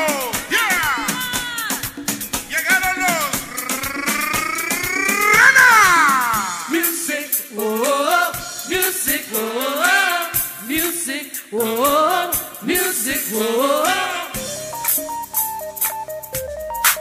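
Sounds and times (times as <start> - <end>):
steady drum beat: 0.0 - 17.0
tropical band melody: 0.0 - 17.0.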